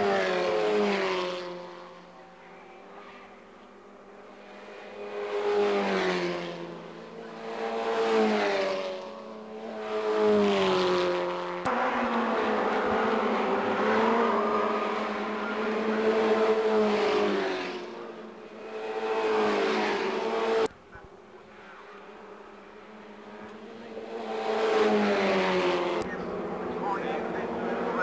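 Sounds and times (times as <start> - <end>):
distant engines: 0.0 - 28.0
racing car engines at high revs: 0.0 - 28.0.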